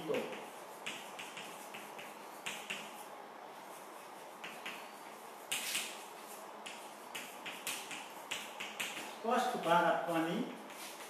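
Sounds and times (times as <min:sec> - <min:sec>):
chalk tapping and scratching: 0:00.0 - 0:11.0
long chalk scratch: 0:00.0 - 0:11.0.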